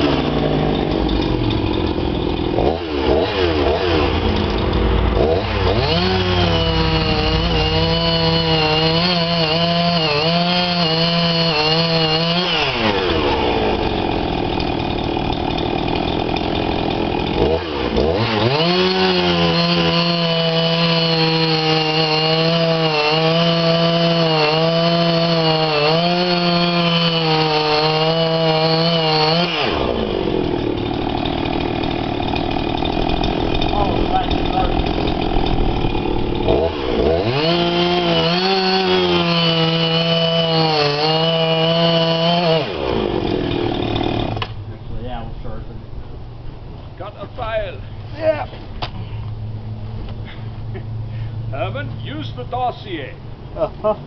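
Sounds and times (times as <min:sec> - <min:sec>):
chainsaw cutting log: 0:00.0 - 0:44.6.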